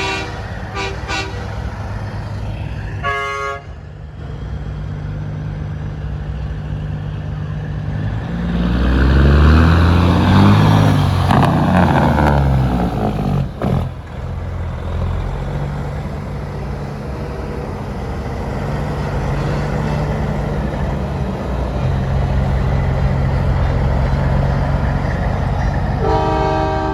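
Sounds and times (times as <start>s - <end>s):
diesel truck engines passing: 0.0s - 26.9s.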